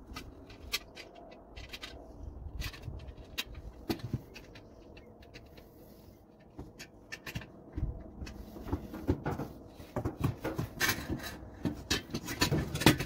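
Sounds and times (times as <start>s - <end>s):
grill parts knocking and clattering: 0.0s - 13.0s.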